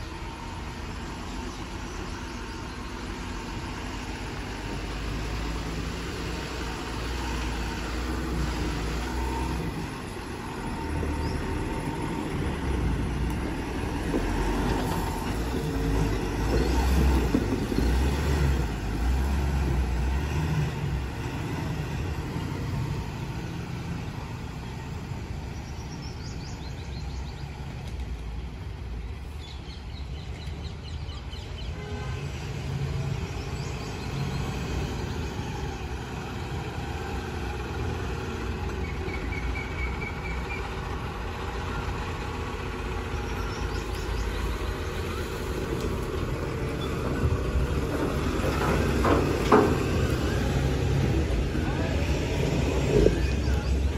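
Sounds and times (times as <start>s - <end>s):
diesel truck engines rumbling: 0.0s - 53.9s.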